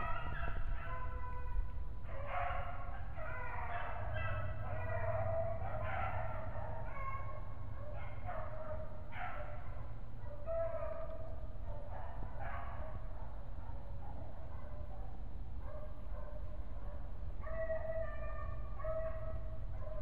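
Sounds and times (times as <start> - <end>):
dogs barking and baying: 0.0 - 1.5, 2.1 - 20.0.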